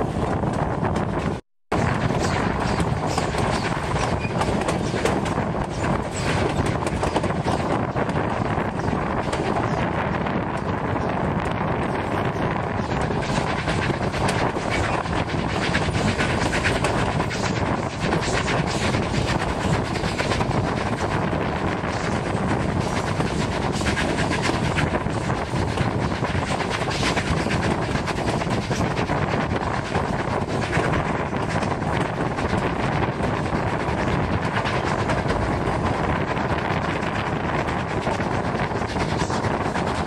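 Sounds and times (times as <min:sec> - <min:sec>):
steam locomotive working: 0:00.0 - 0:40.0
train rumble: 0:00.0 - 0:40.0
train wheels clicking on rails: 0:00.0 - 0:40.0.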